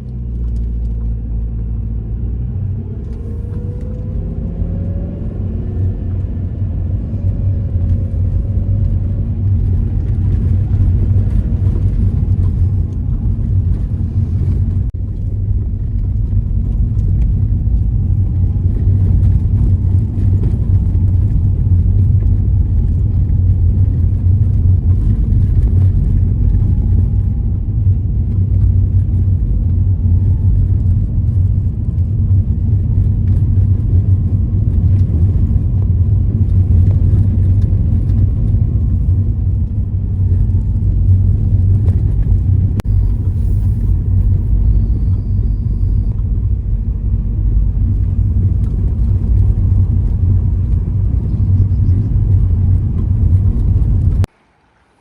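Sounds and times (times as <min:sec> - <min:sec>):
car engine rumbling: 0:00.0 - 0:55.0
road noise: 0:00.0 - 0:55.0.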